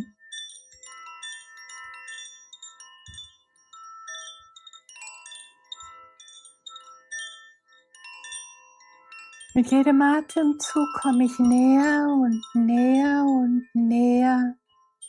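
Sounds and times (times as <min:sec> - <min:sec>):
wind chimes tinkling: 0:00.0 - 0:15.0.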